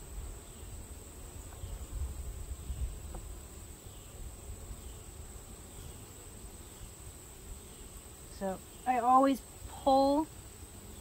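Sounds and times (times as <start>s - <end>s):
insect high-pitched trill: 1.4s - 11.0s.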